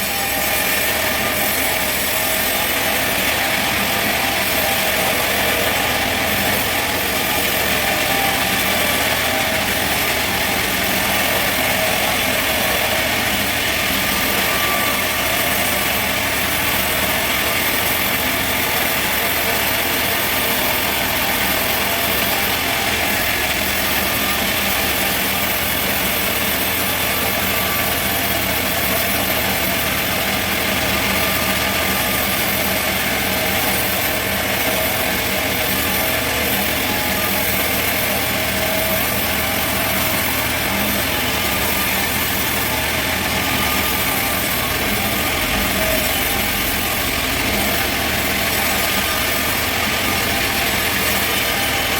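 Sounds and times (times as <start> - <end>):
sawmill machinery drone: 0.0 - 51.9.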